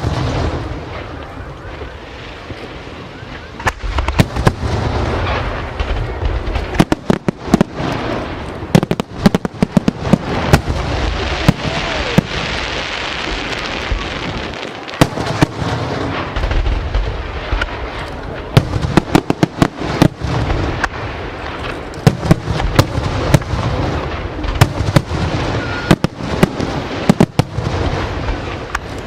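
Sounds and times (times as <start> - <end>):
fireworks bangs: 0.0 - 29.0
rumble of fireworks bursts: 0.0 - 29.0.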